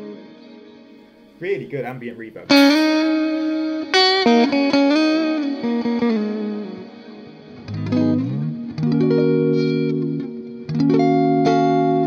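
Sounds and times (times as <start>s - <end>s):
electric guitar with reverb: 0.0s - 12.0s.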